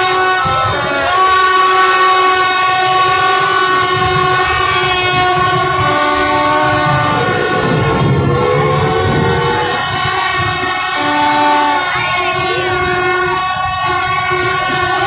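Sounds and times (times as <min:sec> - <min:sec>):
many horns sounding together: 0:00.0 - 0:15.0.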